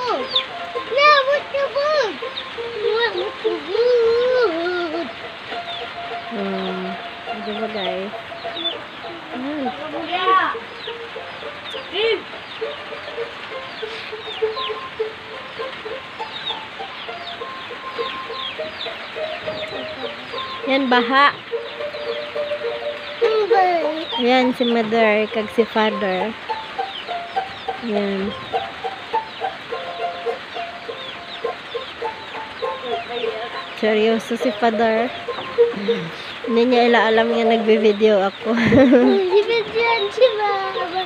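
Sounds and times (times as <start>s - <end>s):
high chirps falling in pitch: 0.0s - 24.5s, 25.4s - 37.4s
chickens clucking: 0.0s - 41.0s
heavy rain hissing: 0.0s - 41.0s.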